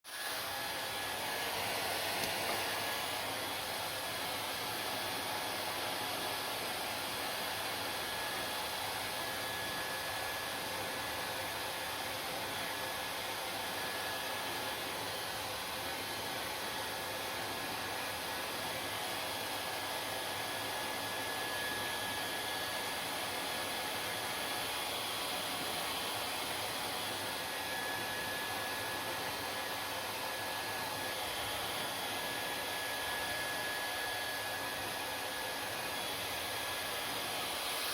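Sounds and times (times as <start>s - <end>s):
hair dryer running: 0.1s - 37.9s.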